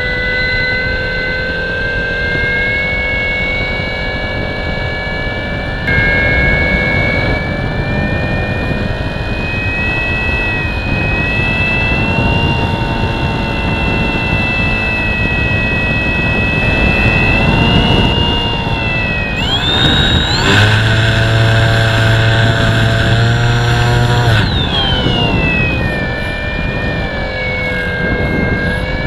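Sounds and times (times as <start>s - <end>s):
model plane motor whining: 0.0s - 29.0s
wind rushing over camera: 2.2s - 29.0s.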